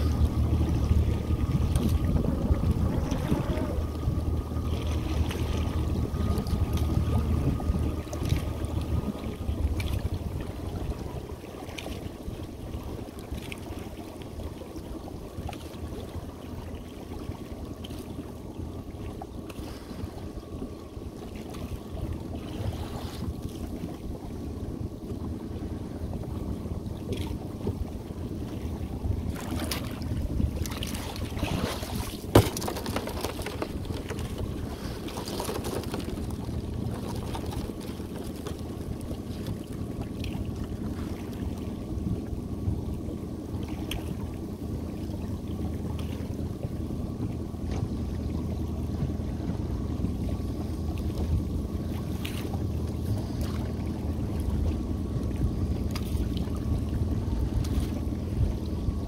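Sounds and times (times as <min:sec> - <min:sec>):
boat motor idling: 0:00.0 - 0:59.0
water washing at hull: 0:00.0 - 0:59.0.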